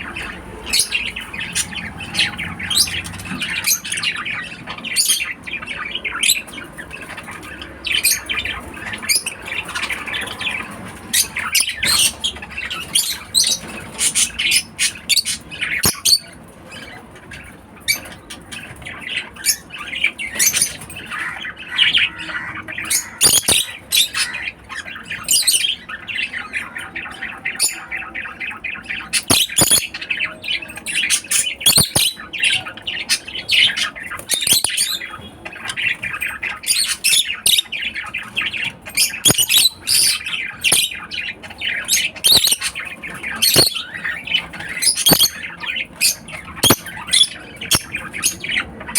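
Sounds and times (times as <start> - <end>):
lovebirds squawking and chirping: 0.0 - 48.9.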